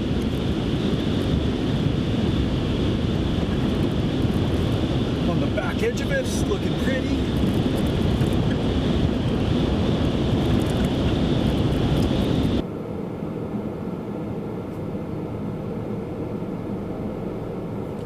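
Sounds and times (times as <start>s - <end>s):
road and engine noise in truck: 0.0s - 18.0s.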